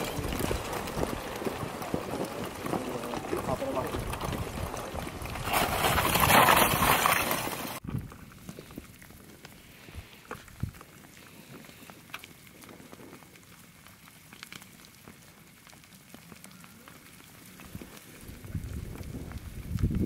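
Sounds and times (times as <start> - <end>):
lava crust crackling: 0.0 - 20.0.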